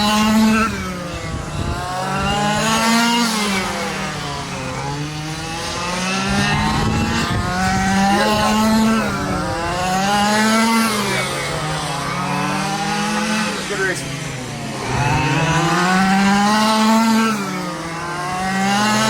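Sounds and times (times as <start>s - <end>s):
rc truck engines revving: 0.0s - 19.0s.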